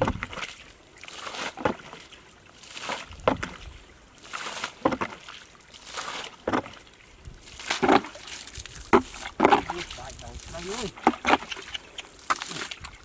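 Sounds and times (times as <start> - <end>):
bucket scooping water: 0.0 - 13.0.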